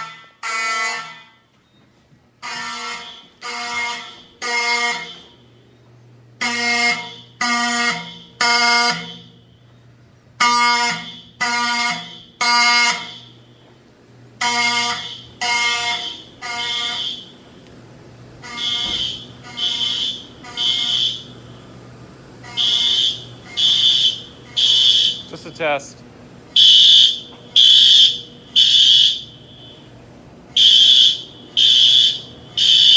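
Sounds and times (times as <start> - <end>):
fire alarm horn blasts: 0.0 - 1.7, 2.3 - 32.9.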